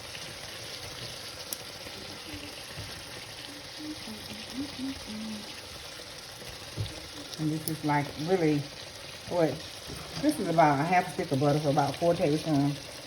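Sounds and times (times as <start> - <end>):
steak and onion sizzling in pan: 0.0 - 13.0.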